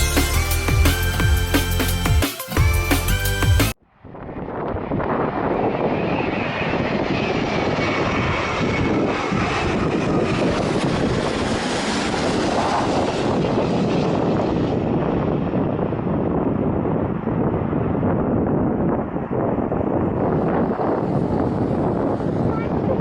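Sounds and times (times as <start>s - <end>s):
airliner engine noise overhead: 4.0s - 23.0s.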